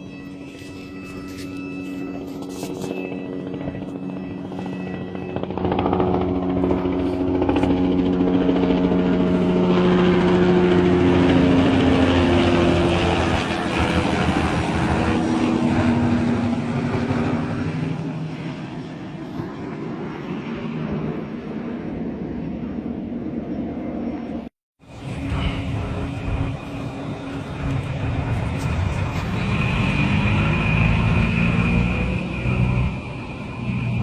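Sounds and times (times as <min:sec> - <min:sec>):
helicopter flying low overhead: 0:00.0 - 0:34.0.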